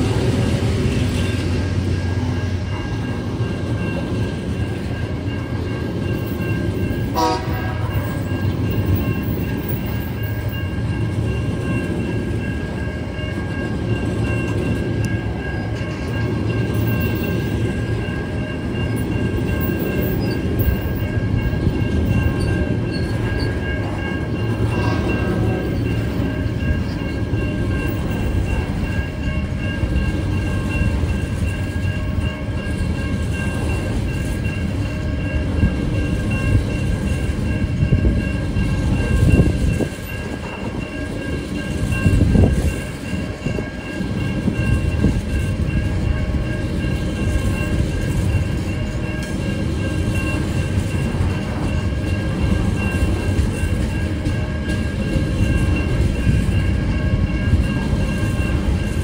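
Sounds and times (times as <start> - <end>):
crossing bell ringing tones: 0.0 - 59.0
train wheels rumbling on rail: 0.0 - 59.0.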